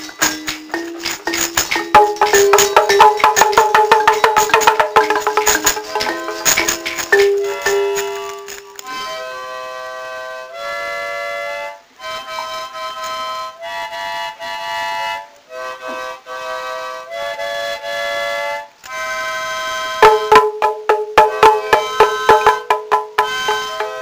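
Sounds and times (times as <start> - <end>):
instrumental background music: 0.0 - 24.0.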